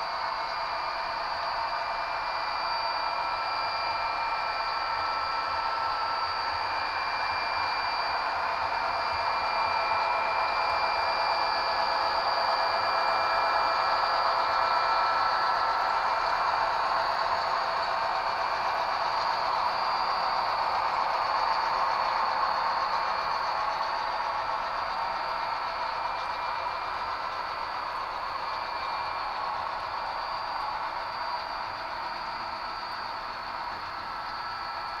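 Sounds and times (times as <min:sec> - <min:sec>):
model train whirring on rails: 0:00.0 - 0:35.0.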